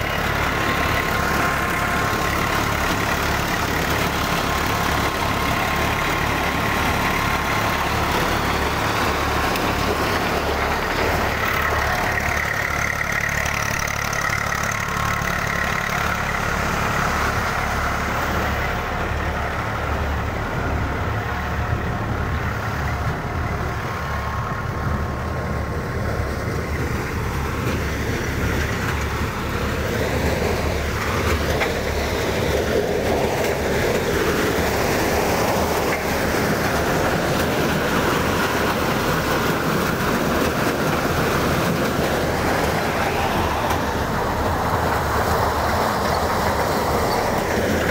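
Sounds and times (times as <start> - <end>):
maize sheller mechanical noise: 0.0 - 47.9
tractor engine drone: 0.0 - 47.9.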